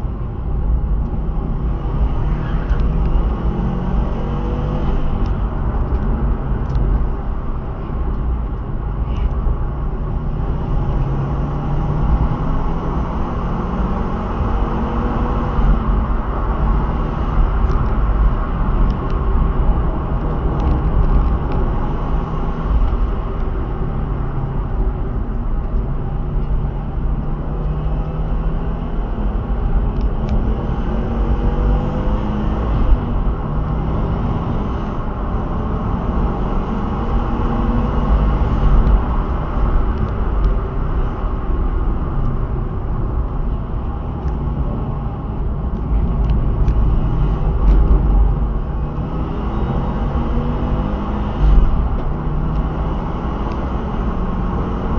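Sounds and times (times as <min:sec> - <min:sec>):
road and wind rumble: 0:00.0 - 0:54.9
car engine revving: 0:00.8 - 0:54.9.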